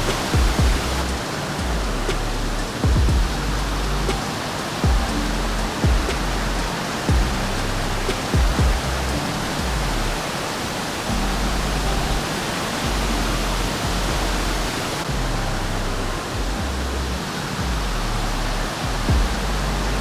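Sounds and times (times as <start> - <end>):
background music with bass: 0.0 - 10.4, 11.1 - 20.0
waterfall rushing: 0.0 - 20.0.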